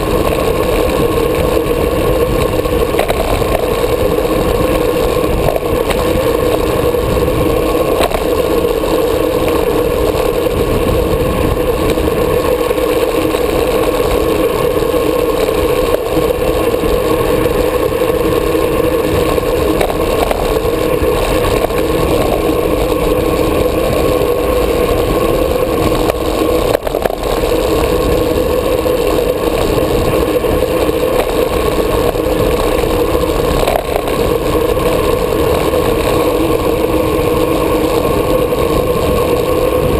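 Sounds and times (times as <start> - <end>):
constant low hum: 0.0 - 39.9
rolling road noise: 0.0 - 39.9
wind rush on microphone: 0.0 - 39.9.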